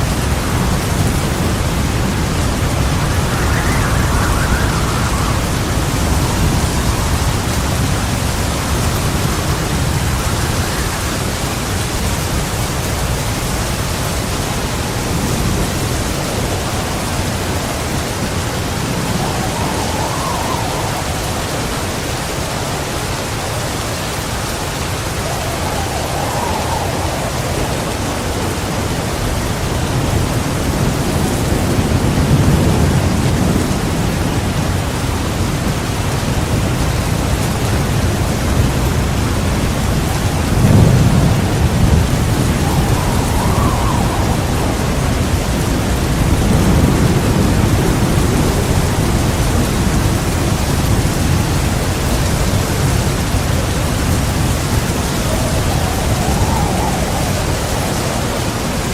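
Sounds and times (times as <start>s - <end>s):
heavy rain pouring: 0.0s - 58.9s
thunder rumble: 0.0s - 58.9s.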